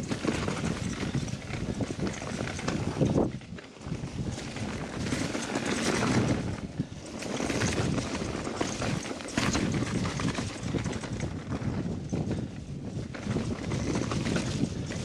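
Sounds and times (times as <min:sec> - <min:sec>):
bike rattling over bumps: 0:00.0 - 0:15.0.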